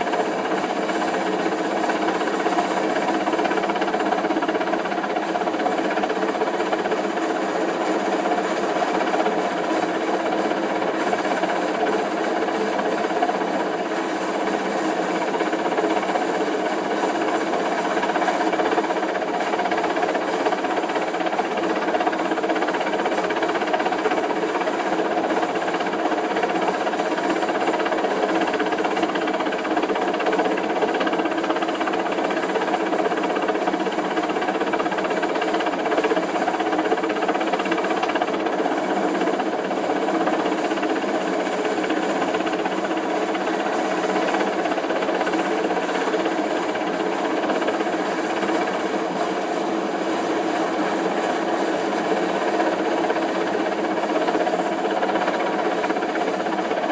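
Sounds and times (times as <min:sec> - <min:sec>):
helicopter engine and rotor drone: 0:00.0 - 0:56.9.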